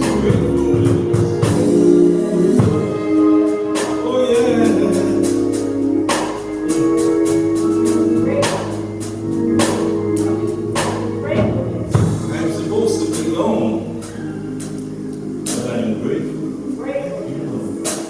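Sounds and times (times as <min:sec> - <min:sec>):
drums: 0:00.0 - 0:14.8, 0:15.4 - 0:15.9
gospel singing: 0:00.0 - 0:18.0
organ chords: 0:00.0 - 0:18.0.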